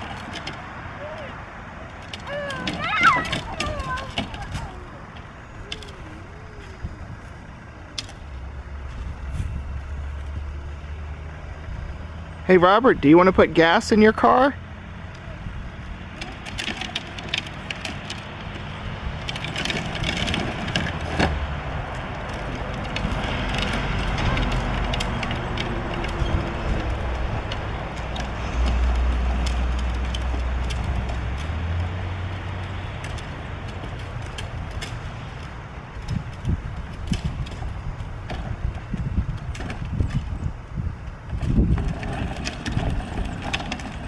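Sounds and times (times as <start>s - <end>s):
plastic toy wheels rolling on concrete: 0.0s - 10.5s, 15.1s - 44.0s.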